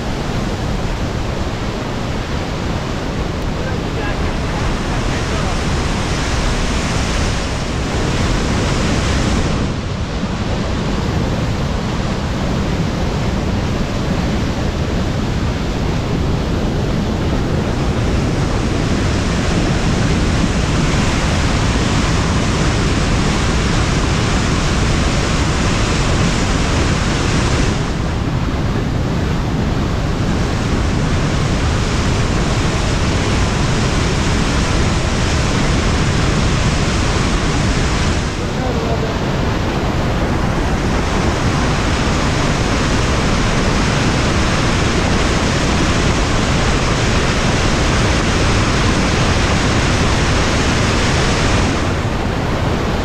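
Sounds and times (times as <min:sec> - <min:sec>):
waterfall rushing over rock: 0:00.0 - 0:53.0.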